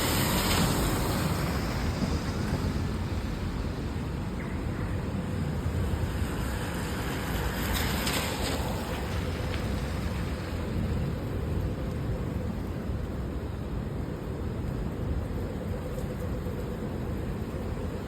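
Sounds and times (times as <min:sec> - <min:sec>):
constant low rumble: 0:00.0 - 0:18.0
steady rain: 0:00.0 - 0:18.0
wet city street noise: 0:00.0 - 0:18.0.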